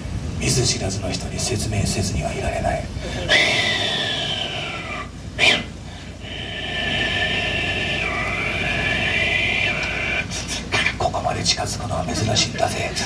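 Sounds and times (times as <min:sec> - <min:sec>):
man imitating train sounds: 0:02.3 - 0:13.0.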